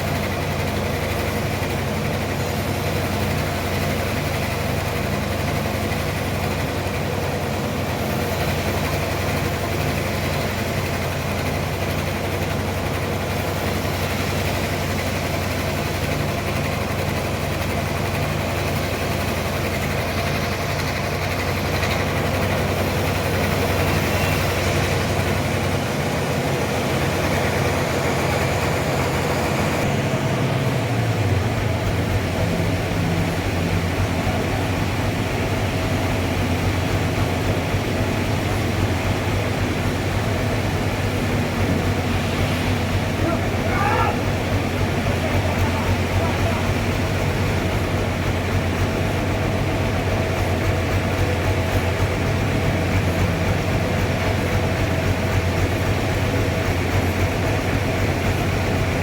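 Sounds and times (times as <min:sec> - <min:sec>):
sawmill engine droning: 0:00.0 - 0:59.0.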